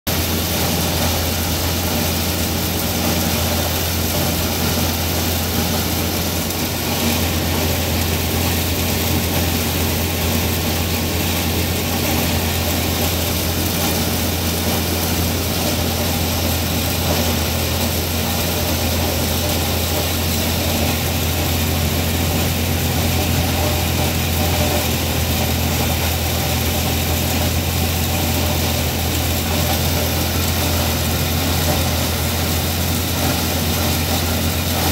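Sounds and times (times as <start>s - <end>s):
feed grinder grinding corn: 0.1s - 34.9s.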